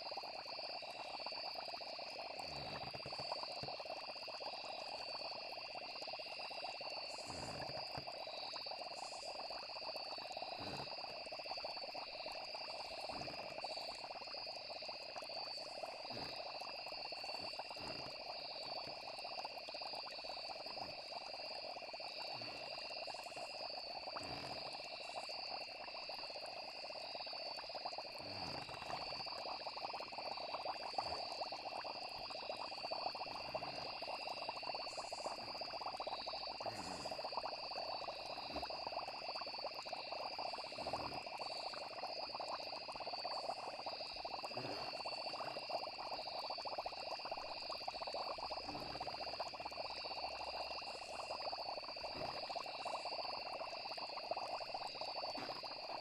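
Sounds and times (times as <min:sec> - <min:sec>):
frogs chorus: 0:00.0 - 0:56.0
insects trilling: 0:00.0 - 0:56.0.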